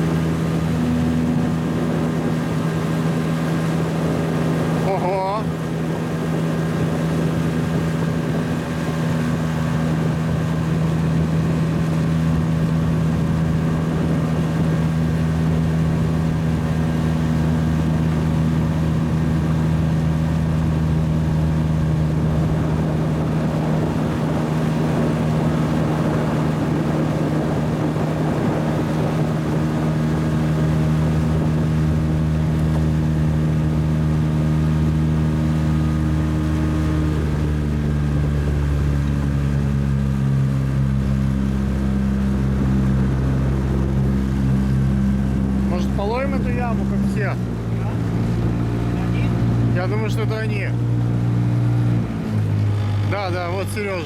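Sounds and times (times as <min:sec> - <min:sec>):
boat motor running: 0:00.0 - 0:54.0
water and wind hiss: 0:00.0 - 0:54.0.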